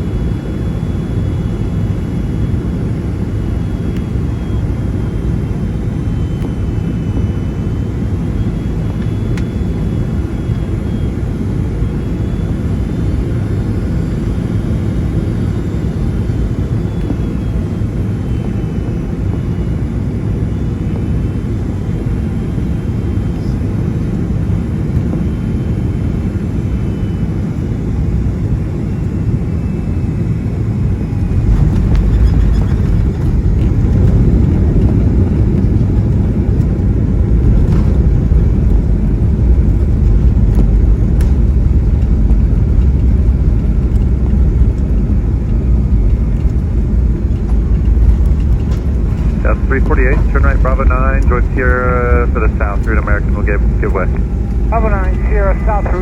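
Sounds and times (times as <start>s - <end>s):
high engine whine: 0.0s - 56.0s
low rumble of engines and airflow: 0.0s - 56.0s.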